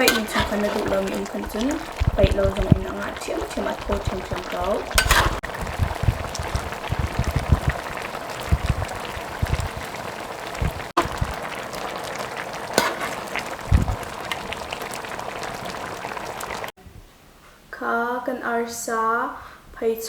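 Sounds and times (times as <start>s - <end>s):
curry bubbling on the heat: 0.0s - 16.8s.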